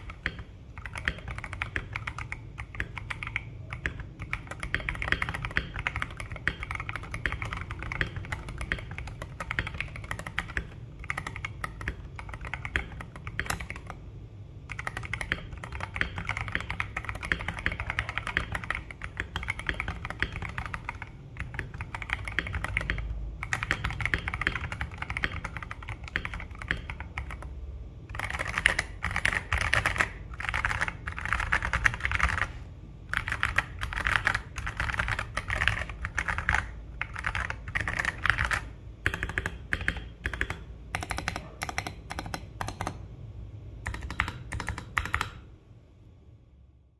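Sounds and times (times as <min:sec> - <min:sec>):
fast mechanical keyboard typing: 0:00.0 - 0:43.1, 0:43.7 - 0:45.5.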